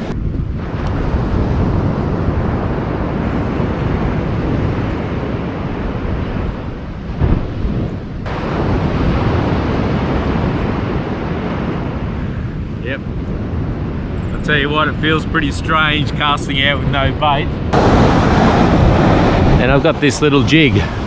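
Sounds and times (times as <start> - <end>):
wind buffeting microphone: 0.0 - 21.0
surf washing on a beach: 0.6 - 21.0.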